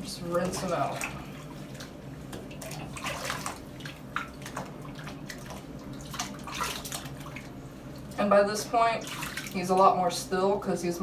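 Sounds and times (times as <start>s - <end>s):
water splashing in a bath: 0.0s - 10.5s.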